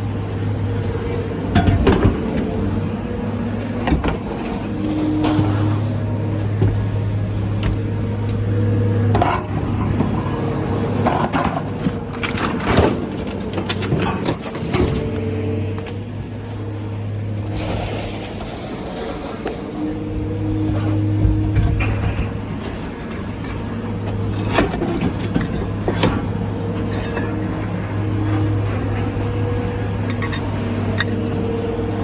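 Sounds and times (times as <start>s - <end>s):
engine humming: 0.0s - 32.0s
scrap metal clanking: 0.7s - 32.0s.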